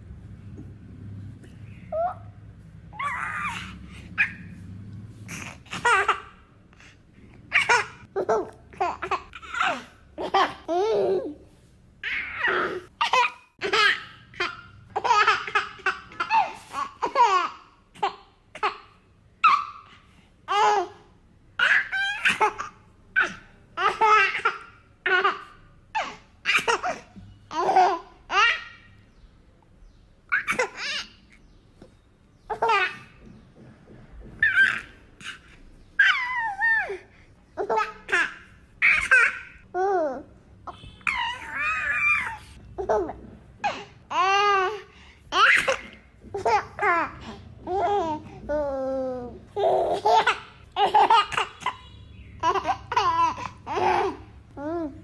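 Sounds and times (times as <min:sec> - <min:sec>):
baby laughing: 0:03.0 - 0:04.6, 0:05.3 - 0:06.9, 0:07.5 - 0:11.4, 0:12.0 - 0:19.9, 0:21.6 - 0:28.8, 0:30.3 - 0:31.3, 0:32.5 - 0:33.2, 0:34.4 - 0:55.0.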